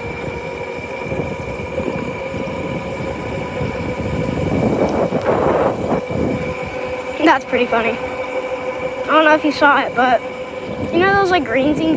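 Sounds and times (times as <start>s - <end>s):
wind noise on microphone: 0.0s - 8.2s, 8.8s - 11.9s
motorcycle engine humming: 0.0s - 11.9s.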